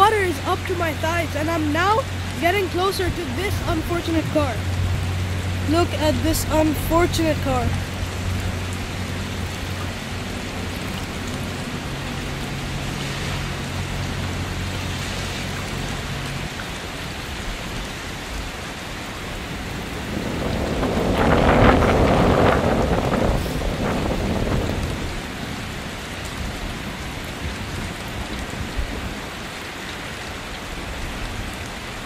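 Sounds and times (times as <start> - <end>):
rain and floodwater hiss: 0.0 - 32.0
wading through floodwater: 0.0 - 32.0.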